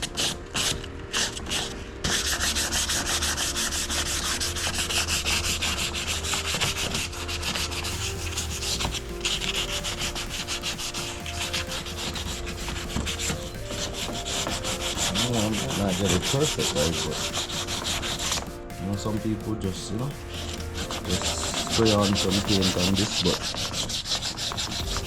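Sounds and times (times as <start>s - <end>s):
sandpaper rubbing on metal: 0.2s - 25.0s.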